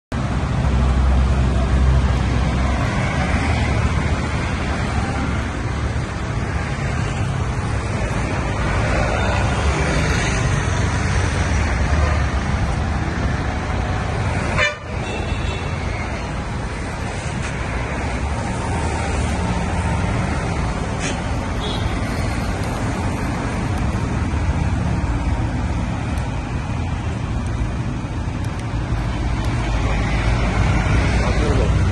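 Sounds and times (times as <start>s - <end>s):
road traffic rumble: 0.1s - 31.9s.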